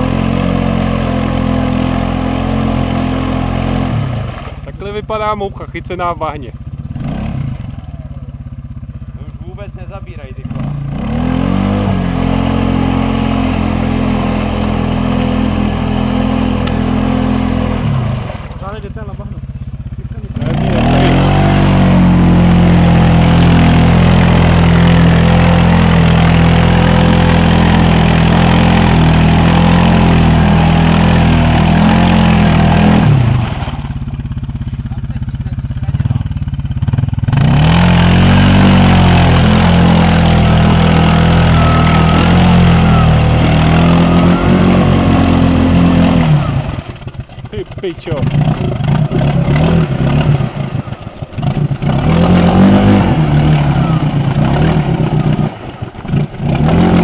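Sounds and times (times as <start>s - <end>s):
atv engine revving hard: 0.0s - 57.0s
wheels spinning in mud: 0.0s - 57.0s.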